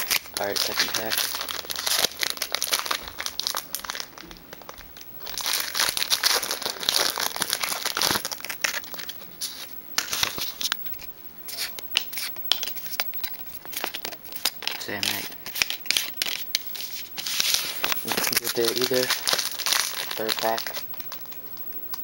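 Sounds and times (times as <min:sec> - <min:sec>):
foil wrapper crinkling and tearing: 0:00.0 - 0:22.0.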